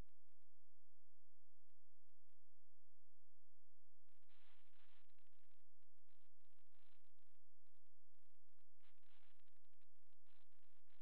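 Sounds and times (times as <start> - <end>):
faint high-pitched whines: 0.0 - 11.0
low electrical hum: 0.0 - 11.0.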